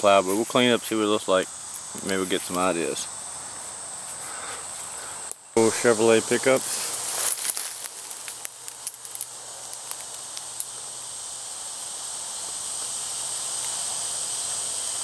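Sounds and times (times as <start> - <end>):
leaves and twigs crackling underfoot: 0.0 - 14.6
insects droning: 0.0 - 15.0.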